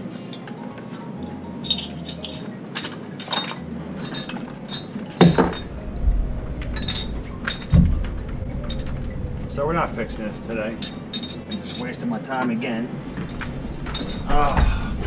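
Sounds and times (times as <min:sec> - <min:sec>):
metal tools clinking: 0:01.6 - 0:12.1, 0:12.8 - 0:15.0.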